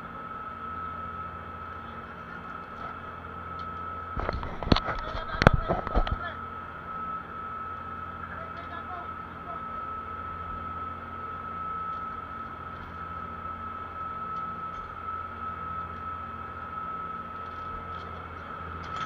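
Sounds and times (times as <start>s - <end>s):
boat engine humming with whine: 0.0s - 19.0s.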